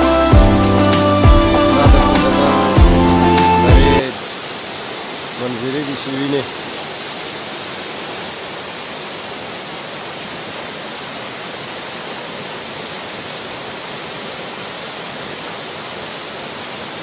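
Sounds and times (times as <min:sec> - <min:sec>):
stream rushing over rocks: 0:01.2 - 0:17.0.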